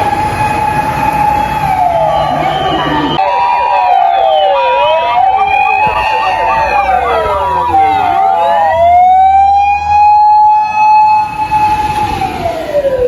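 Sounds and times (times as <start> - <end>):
electronic siren: 0.0 - 13.0.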